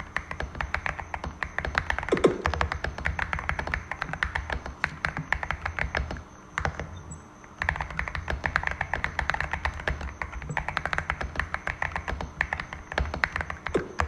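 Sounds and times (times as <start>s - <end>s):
fast typing on mechanical keyboard: 0.0s - 6.9s, 7.6s - 14.0s.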